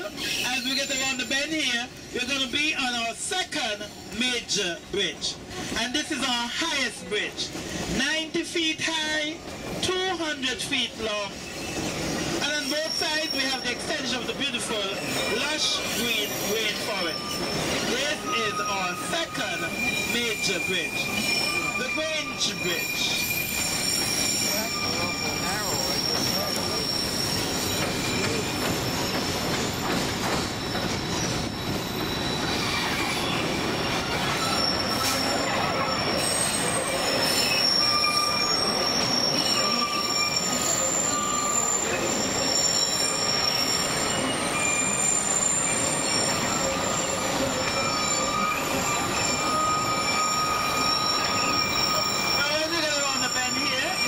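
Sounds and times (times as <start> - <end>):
train cars rattling and rumbling: 0.0 - 54.0
train wheels squealing on rails: 0.0 - 54.0.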